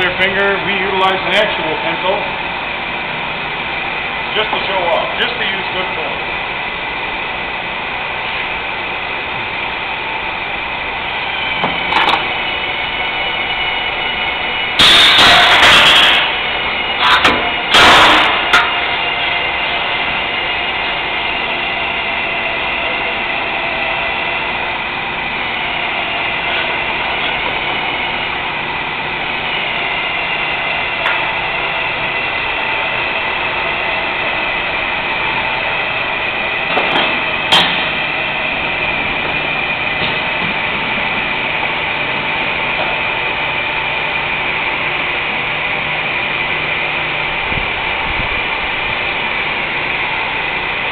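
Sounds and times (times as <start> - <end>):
machinery hum with high whine: 0.0 - 50.9.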